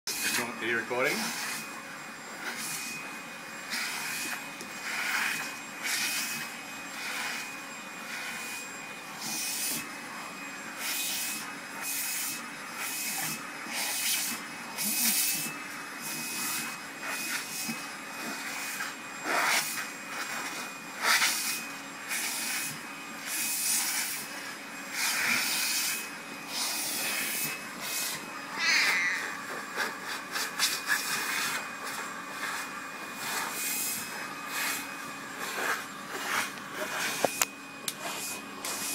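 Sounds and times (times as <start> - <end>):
vacuum cleaner whine: 0.1 - 38.9.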